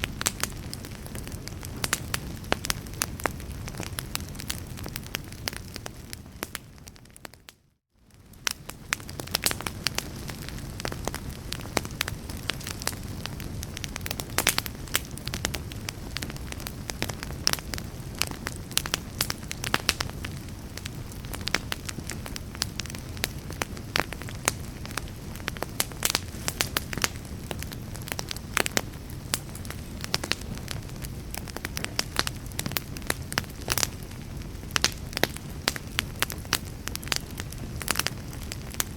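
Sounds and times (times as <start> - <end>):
fire pops and snaps: 0.0 - 38.9
low rumble of flames: 0.0 - 38.9.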